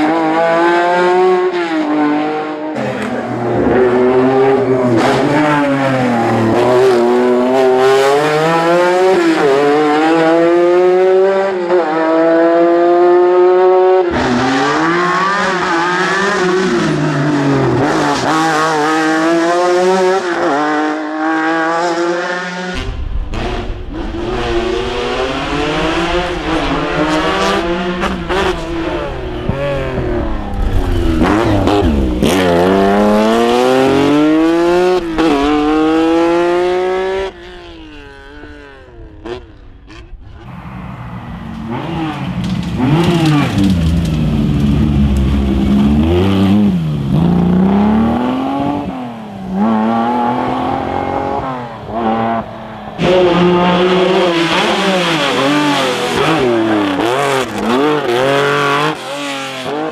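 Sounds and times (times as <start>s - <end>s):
rally car engine at full throttle: 0.0s - 59.9s.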